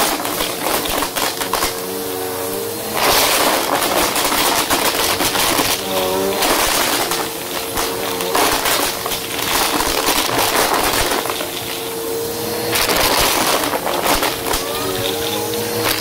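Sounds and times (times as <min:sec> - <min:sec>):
coins rattling through vacuum: 0:00.0 - 0:16.0
vacuum cleaner motor whine: 0:00.0 - 0:16.0.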